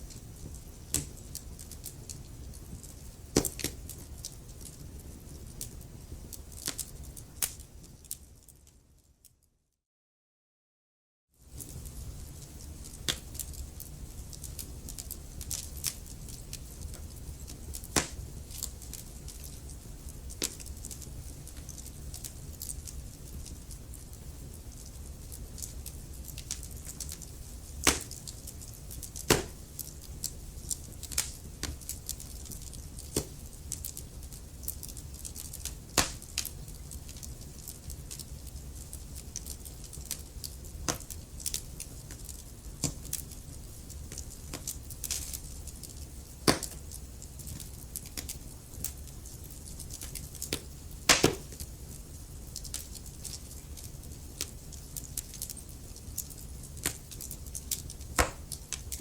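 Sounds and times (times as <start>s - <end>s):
low fire rumble: 0.0s - 8.9s, 11.4s - 59.0s
wood fire crackling and popping: 0.0s - 9.4s, 11.4s - 59.0s.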